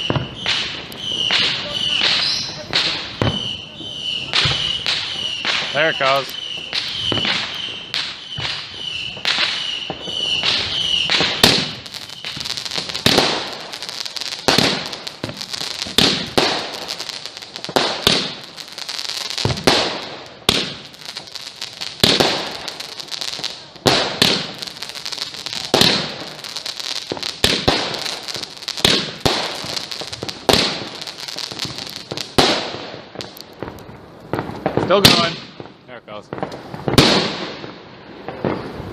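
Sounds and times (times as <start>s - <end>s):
firework crackling: 0.0s - 38.9s
firework shots reports: 0.0s - 38.9s.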